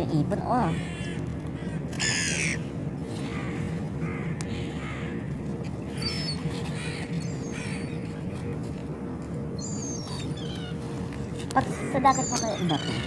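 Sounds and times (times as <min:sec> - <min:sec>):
gulls calling: 0:00.1 - 0:13.0.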